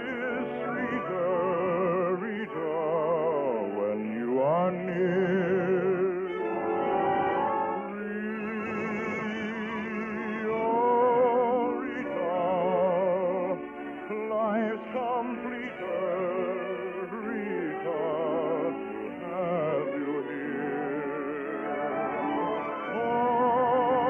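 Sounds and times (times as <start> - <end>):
operatic singing with vibrato: 0.0 - 24.0
orchestral accompaniment: 0.0 - 24.0.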